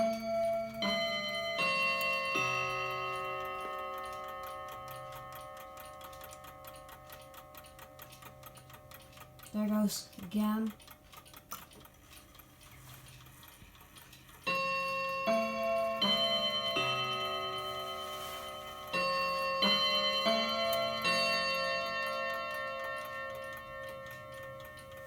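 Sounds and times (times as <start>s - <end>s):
clock chime notes ringing: 0.0s - 10.8s, 14.3s - 25.0s
faint clock ticking: 0.0s - 25.0s.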